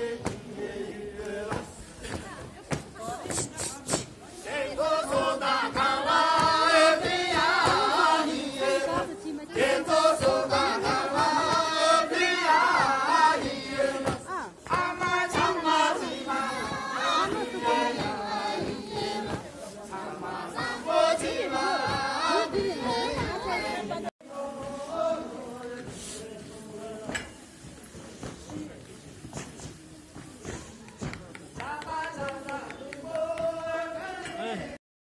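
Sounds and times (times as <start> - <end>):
voices singing held notes: 0.0 - 28.3, 31.3 - 34.8.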